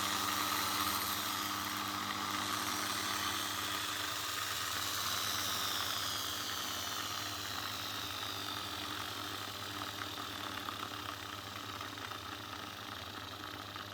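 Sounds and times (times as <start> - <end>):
electric drill motor whining: 0.0 - 13.6.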